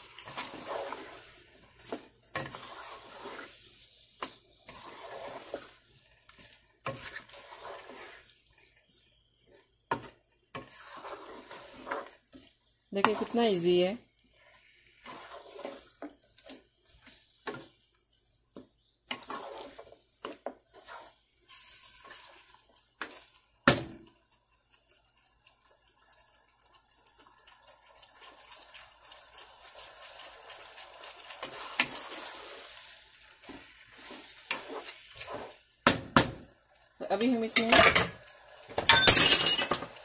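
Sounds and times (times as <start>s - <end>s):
spatula stirring food in pan: 0.0s - 38.8s
wet sizzle: 0.0s - 38.9s.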